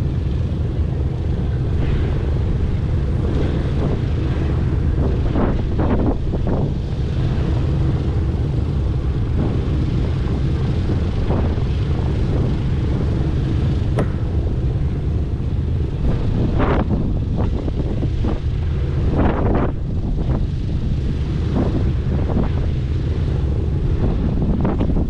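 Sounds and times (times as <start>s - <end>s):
radial aircraft engines droning: 0.0s - 25.0s
wind buffeting microphone: 0.0s - 25.0s.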